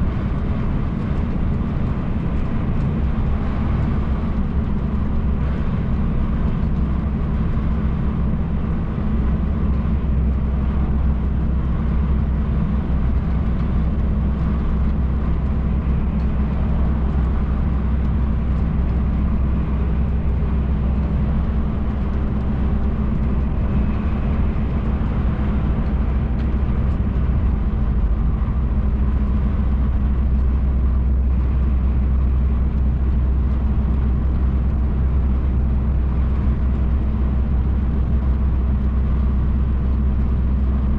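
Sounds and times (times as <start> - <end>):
road and tyre noise: 0.0 - 40.9
truck engine drone: 0.0 - 40.9.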